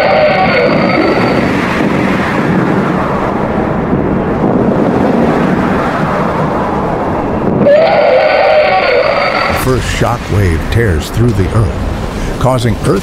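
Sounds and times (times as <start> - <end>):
storm wind rushing rumble: 0.0 - 13.0.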